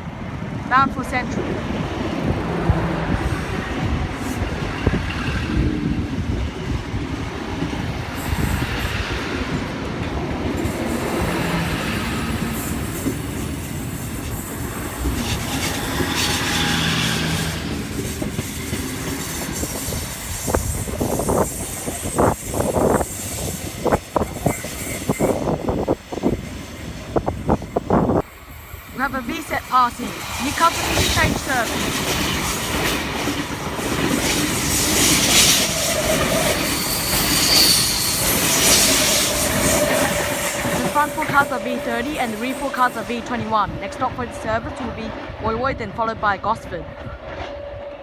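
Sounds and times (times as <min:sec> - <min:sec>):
diesel train rumbling past: 0:00.0 - 0:48.0.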